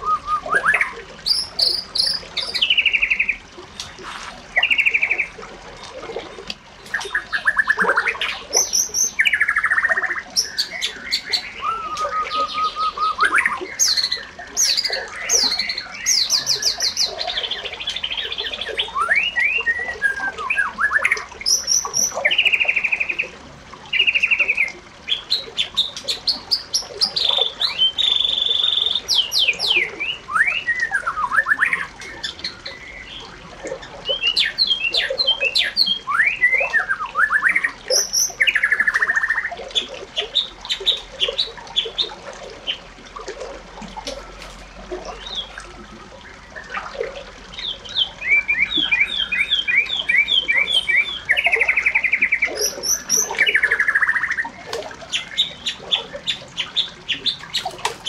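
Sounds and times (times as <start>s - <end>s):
birds singing and calling: 0.0s - 58.0s.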